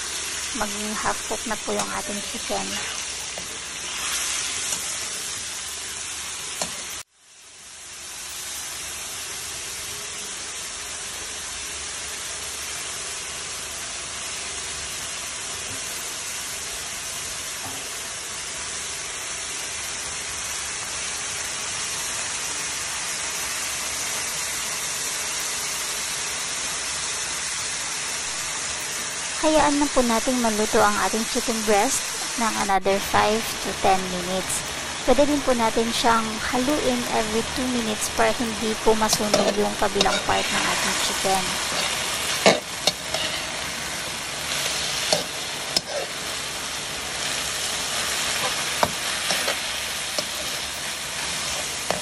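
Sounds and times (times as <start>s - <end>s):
food sizzling in a wok: 0.0s - 52.0s.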